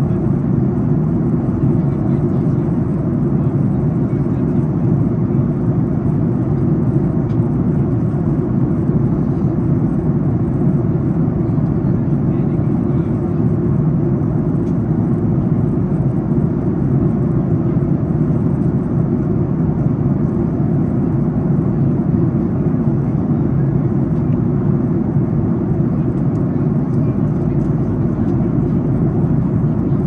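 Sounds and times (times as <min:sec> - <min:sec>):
airliner cabin noise: 0:00.0 - 0:30.0.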